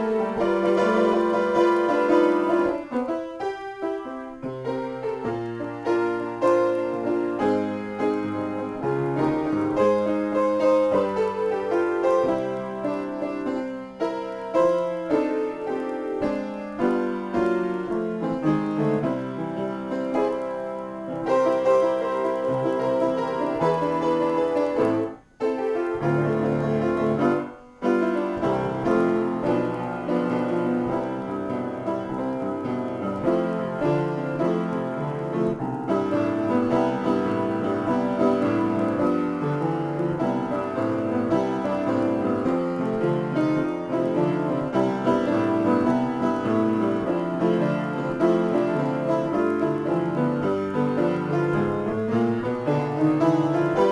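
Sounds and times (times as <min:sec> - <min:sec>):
piano improvisation: 0:00.0 - 0:53.9.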